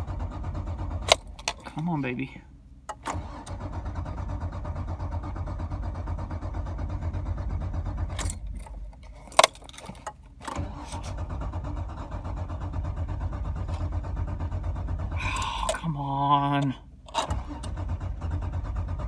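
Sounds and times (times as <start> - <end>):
car engine cranking: 0.0 - 19.0.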